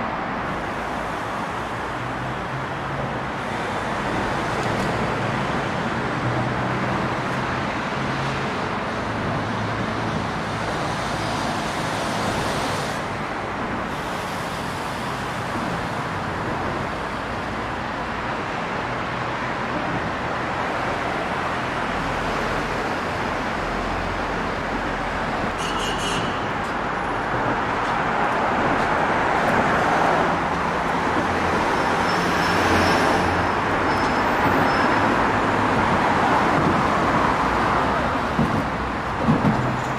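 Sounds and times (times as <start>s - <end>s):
cars passing by: 0.0s - 39.9s
traffic rumble: 0.0s - 39.9s.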